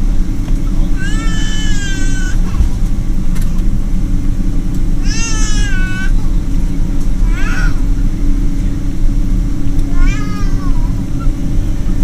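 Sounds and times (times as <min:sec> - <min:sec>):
aircraft low rumble: 0:00.0 - 0:12.0.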